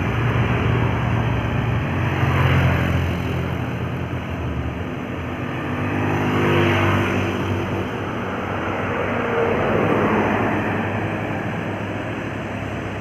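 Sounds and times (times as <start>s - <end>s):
vehicle passing: 0.0s - 11.8s
low engine hum: 0.0s - 13.0s.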